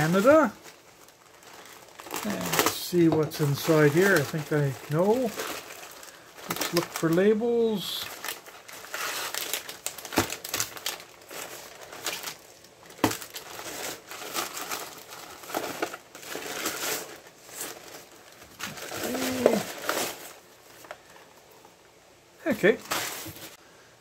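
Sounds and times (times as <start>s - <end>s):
plastic bag crinkling: 0.0s - 21.8s.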